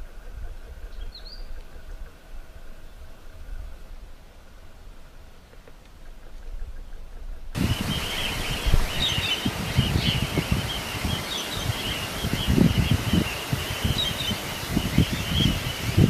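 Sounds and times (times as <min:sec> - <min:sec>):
gusty buffeting rumble: 0:00.0 - 0:16.0.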